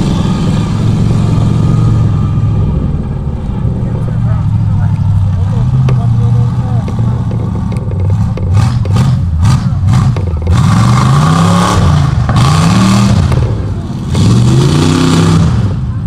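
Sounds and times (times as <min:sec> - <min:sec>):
truck engine revving hard: 0:00.0 - 0:16.0.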